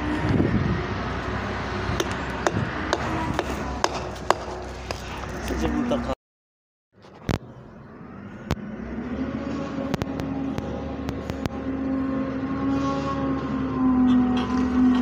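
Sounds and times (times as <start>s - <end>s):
diesel engine running: 0.0s - 6.2s, 7.1s - 15.0s.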